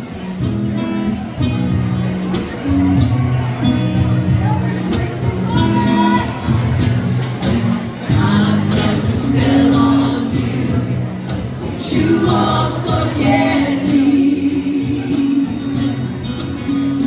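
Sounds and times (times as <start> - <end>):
band music with singing: 0.0 - 17.0.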